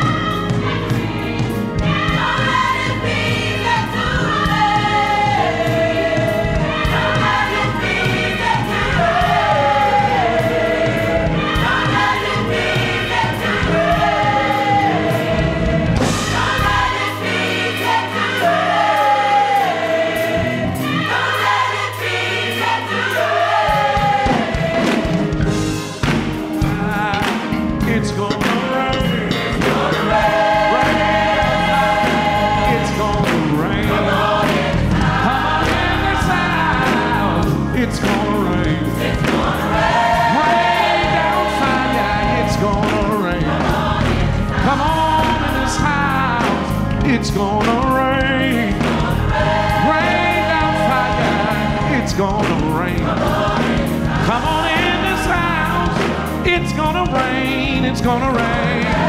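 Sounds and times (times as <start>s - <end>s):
gospel choir singing: 0.0s - 59.0s
keyboard accompaniment: 0.0s - 59.0s.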